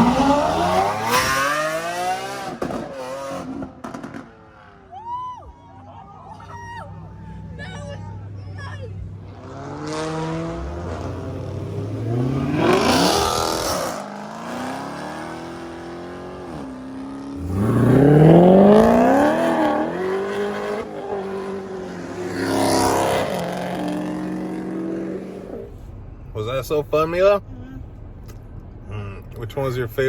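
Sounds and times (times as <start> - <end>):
car engines revving hard: 0.0 - 4.9, 7.0 - 26.2.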